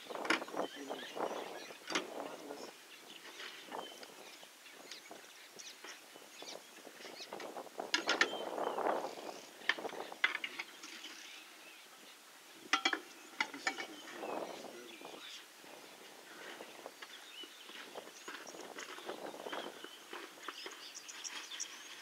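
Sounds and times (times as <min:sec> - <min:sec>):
rustle: 0:00.0 - 0:22.0.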